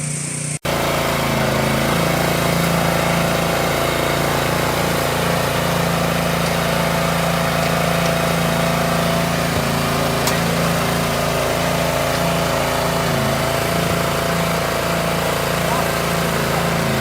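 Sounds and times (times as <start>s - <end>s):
stump grinder engine running: 0.0s - 17.0s.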